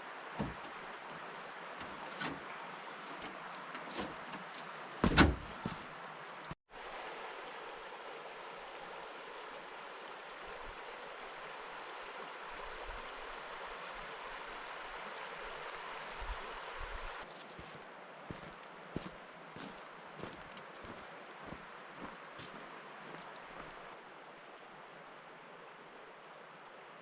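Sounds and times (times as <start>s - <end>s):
river flowing: 0.0s - 27.0s.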